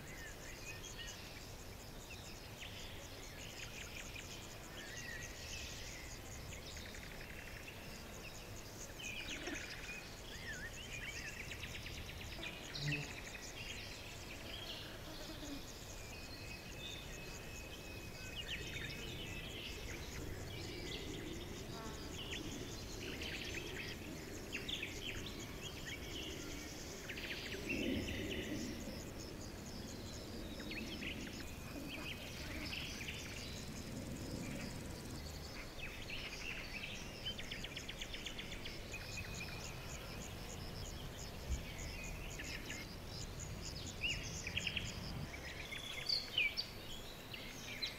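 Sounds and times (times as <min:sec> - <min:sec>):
steady outdoor hiss: 0:00.0 - 0:47.9.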